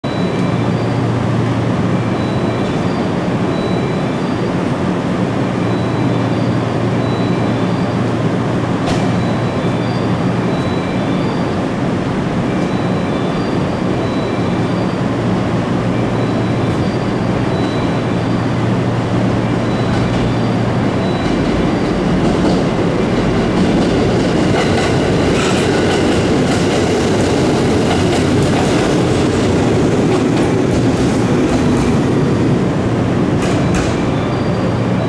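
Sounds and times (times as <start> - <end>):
train wheels rumbling on rails: 0.2 - 35.0.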